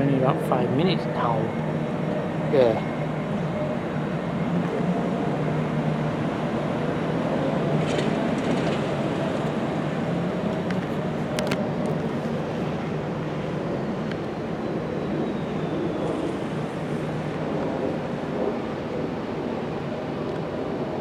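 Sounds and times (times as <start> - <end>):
passing vehicles rumbling: 0.0 - 18.8.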